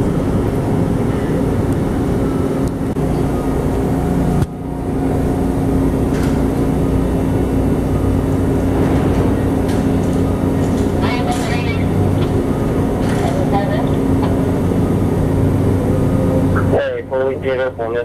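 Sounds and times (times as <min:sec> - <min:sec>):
heavy machinery droning: 0:00.0 - 0:18.0.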